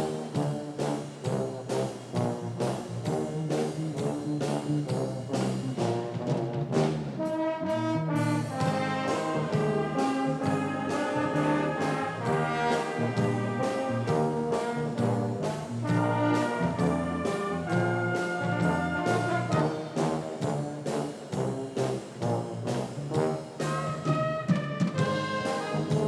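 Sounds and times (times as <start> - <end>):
brass band playing held chords: 0.0 - 26.0
steady drum beat: 0.0 - 26.0.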